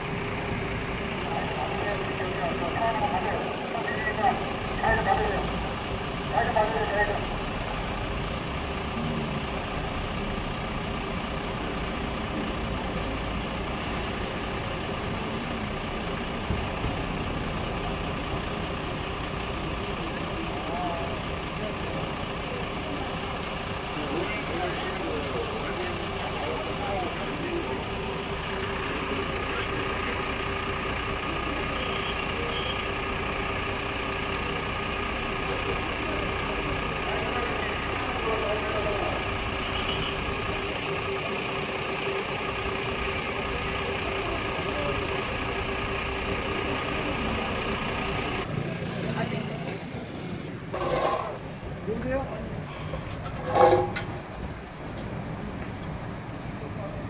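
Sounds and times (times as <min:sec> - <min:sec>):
city traffic noise: 0:00.0 - 0:57.0
heavy engines idling: 0:00.0 - 0:57.0.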